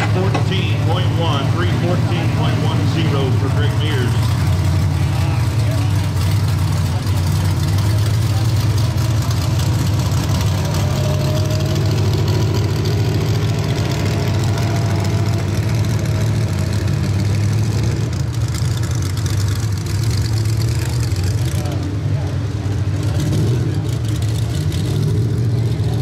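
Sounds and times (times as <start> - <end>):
engines idling: 0.0 - 26.0.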